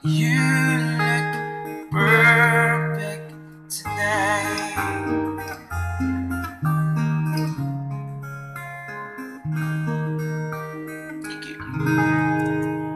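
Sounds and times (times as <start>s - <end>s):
acoustic guitar: 0.0s - 12.9s
sustained instrumental notes: 1.7s - 12.9s.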